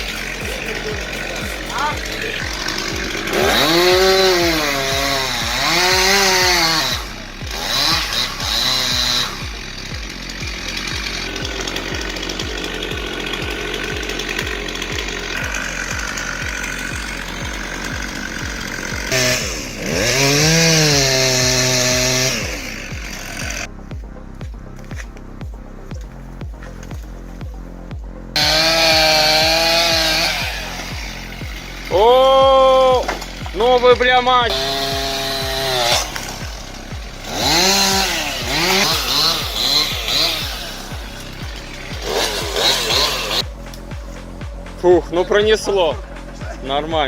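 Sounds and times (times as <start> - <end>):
chainsaw cutting under load: 0.0 - 23.7, 28.3 - 44.8
background music with steady beat: 0.0 - 47.0.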